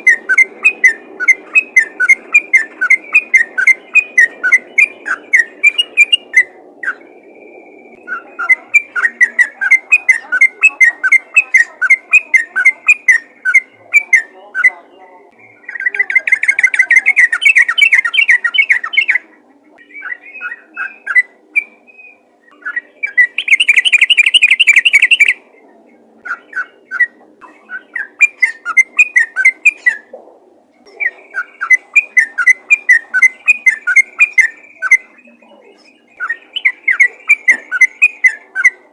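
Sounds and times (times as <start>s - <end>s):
bulbul singing: 0.0s - 38.9s
faint steady hum: 0.0s - 38.9s.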